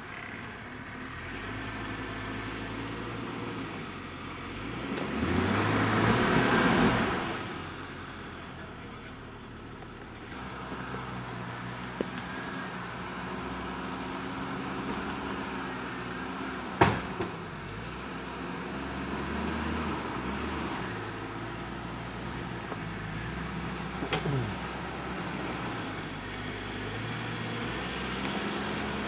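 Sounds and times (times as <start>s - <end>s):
car engine running slowly: 0.0s - 29.0s.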